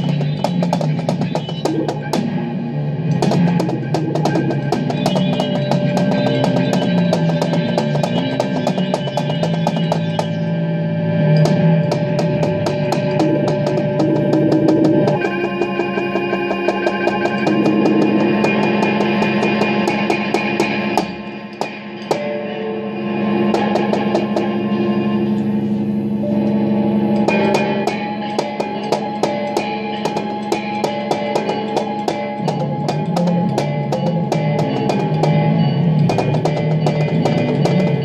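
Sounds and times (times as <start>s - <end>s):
electronic drone: 0.0s - 38.0s
electronic percussion pad hits: 0.0s - 38.0s.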